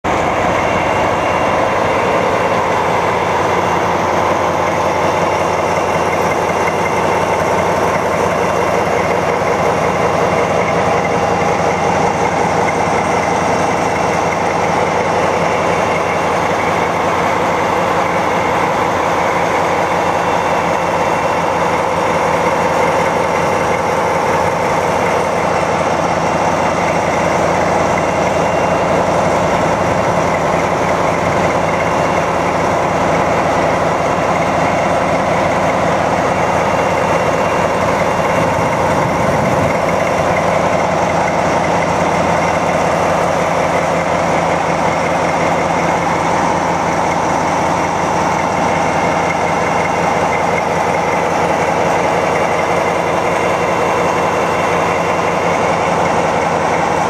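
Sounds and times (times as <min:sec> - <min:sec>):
diesel locomotive engine idling: 0:00.0 - 0:57.0.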